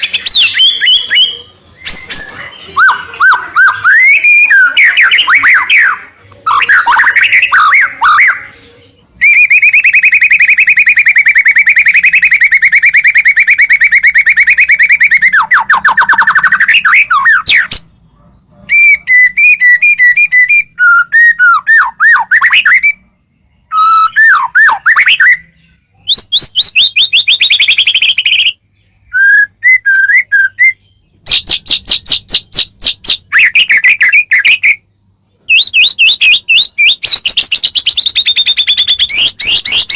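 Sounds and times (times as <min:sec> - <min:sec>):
bird singing whistled phrases: 0:00.0 - 0:17.8, 0:18.6 - 0:23.0, 0:23.7 - 0:34.8, 0:35.5 - 0:39.9.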